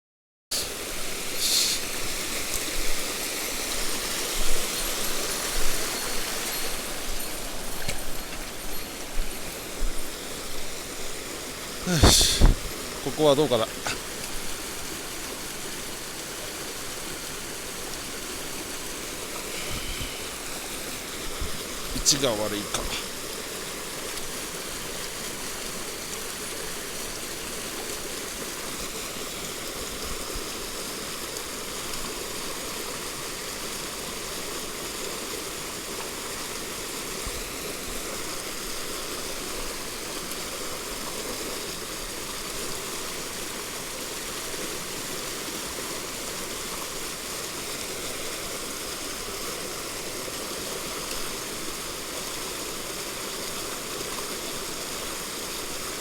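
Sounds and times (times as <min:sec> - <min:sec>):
mountain stream flowing: 0:00.5 - 0:56.0.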